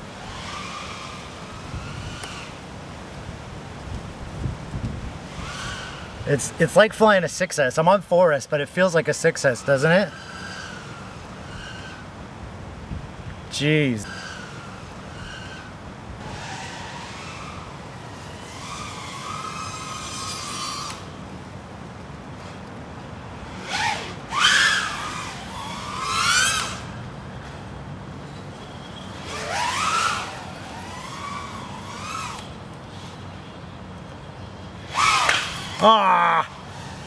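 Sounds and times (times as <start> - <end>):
quadcopter motors whining: 0.0 - 37.0.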